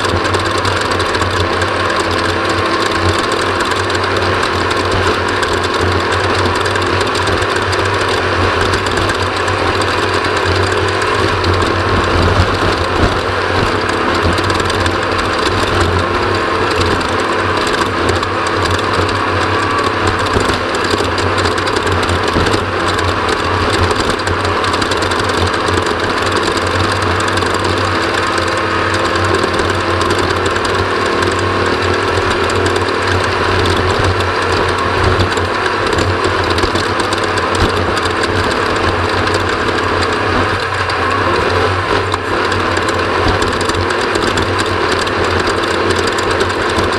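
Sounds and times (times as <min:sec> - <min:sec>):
loud engine running: 0:00.0 - 0:46.9.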